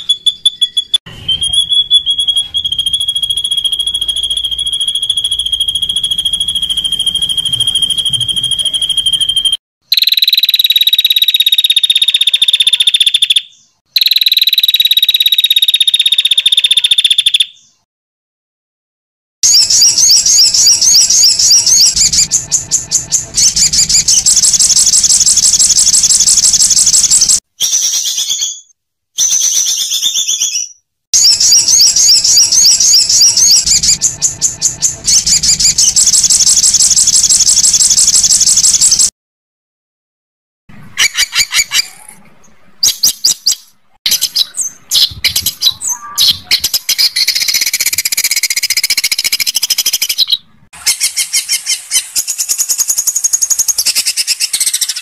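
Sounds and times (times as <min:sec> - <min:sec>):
songbird trilling: 0:01.6 - 0:17.7, 0:19.4 - 0:28.7, 0:29.4 - 0:39.1, 0:44.1 - 0:55.0.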